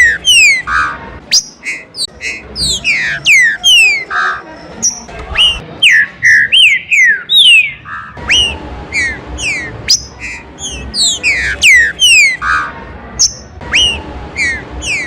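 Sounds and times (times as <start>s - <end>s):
bird singing whistled notes: 0.0s - 15.0s.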